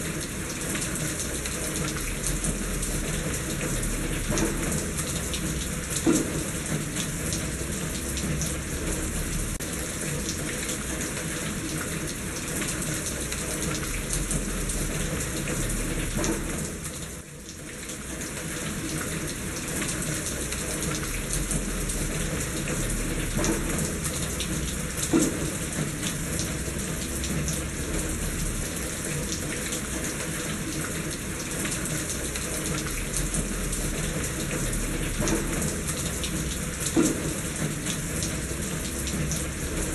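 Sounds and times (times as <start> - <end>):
loud drips and knocks: 0.0 - 17.3, 18.4 - 39.9
steady rain falling: 0.0 - 39.9
water running in a gutter: 0.0 - 39.9.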